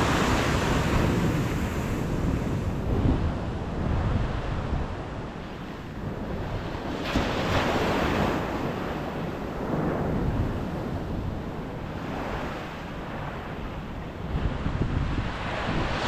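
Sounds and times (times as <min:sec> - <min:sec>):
waves washing on a beach: 0:00.0 - 0:16.0
wind rumble on microphone: 0:00.0 - 0:16.0.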